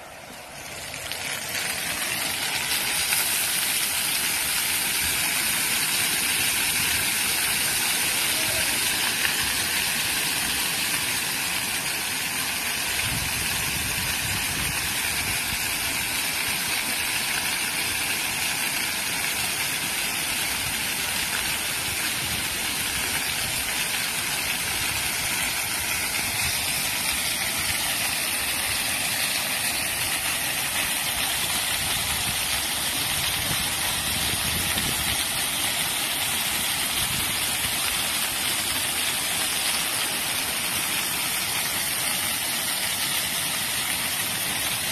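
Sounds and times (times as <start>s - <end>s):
water jets spraying and splashing: 0.0s - 44.9s.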